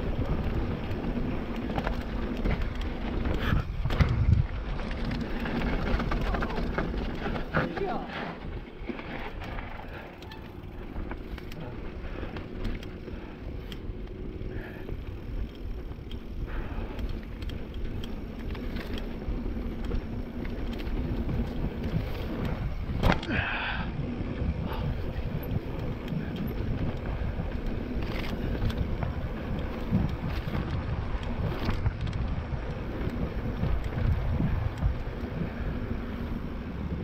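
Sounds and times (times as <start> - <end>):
bike rattles and clicks: 0.0 - 37.0
bike tyres rolling on dirt: 0.0 - 37.0.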